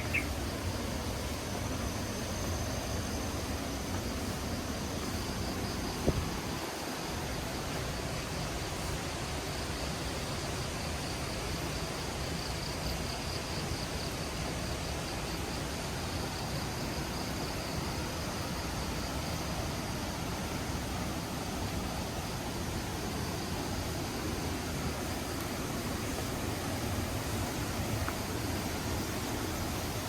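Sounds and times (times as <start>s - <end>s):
insect trill: 0.0s - 30.0s.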